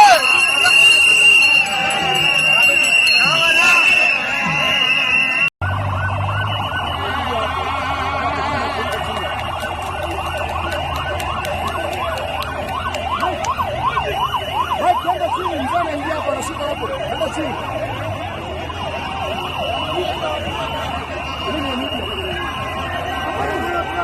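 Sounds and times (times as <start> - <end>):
siren yelping: 0.0 - 24.0.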